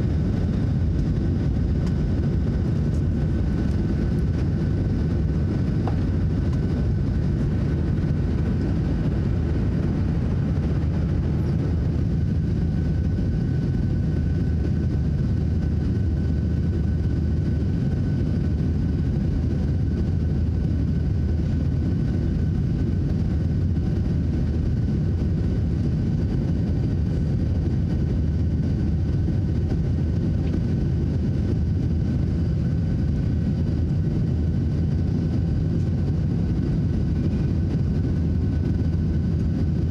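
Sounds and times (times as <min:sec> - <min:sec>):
airplane cabin engine rumble: 0:00.0 - 0:39.9
faint steady whine: 0:00.0 - 0:39.9.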